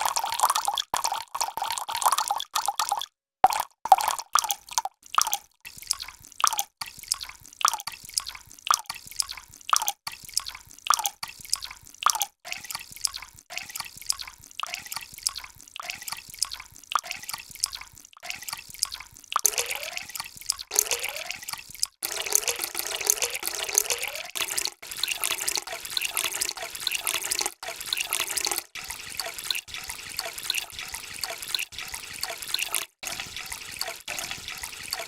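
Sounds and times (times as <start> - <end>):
water drops plopping into water: 0.0 - 35.0.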